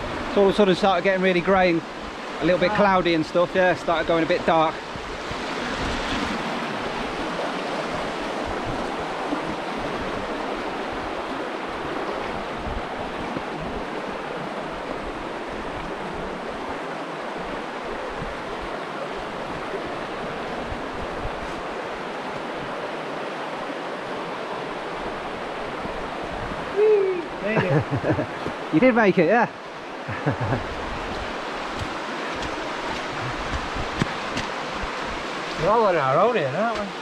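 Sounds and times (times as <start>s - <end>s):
river rushing over rocks: 0.0s - 37.0s.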